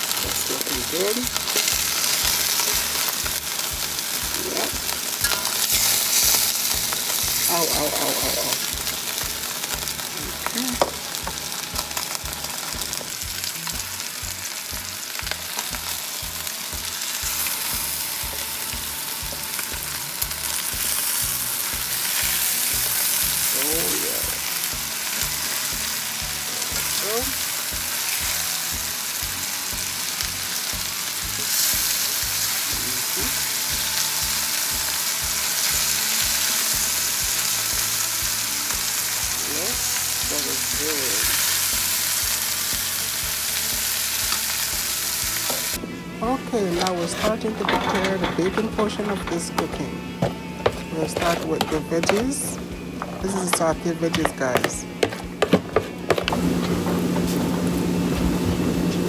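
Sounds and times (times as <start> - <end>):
chicken sizzling in a pan: 0.0 - 45.8, 55.4 - 59.0.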